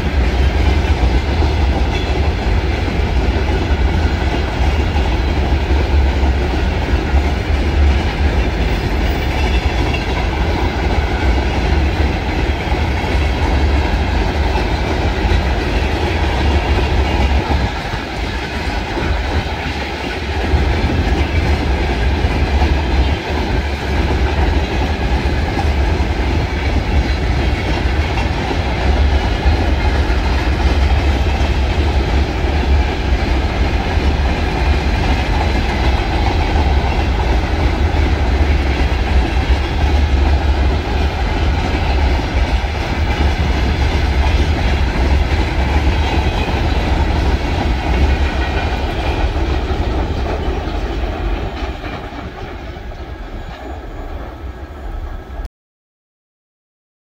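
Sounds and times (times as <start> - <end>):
freight train wheels clattering: 0.0 - 55.3.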